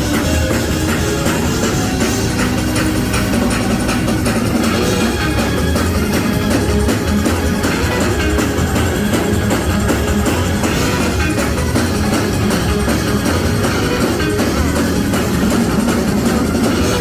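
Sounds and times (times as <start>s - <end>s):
drum kit beat: 0.0s - 17.0s
live band playing: 0.0s - 17.0s.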